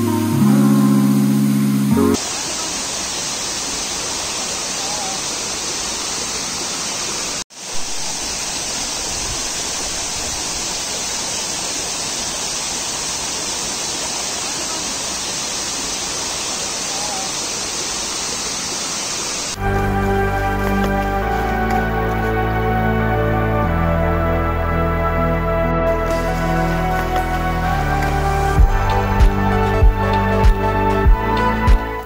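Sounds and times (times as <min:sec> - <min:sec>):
waterfall roaring: 0:00.0 - 0:23.6, 0:25.9 - 0:30.8.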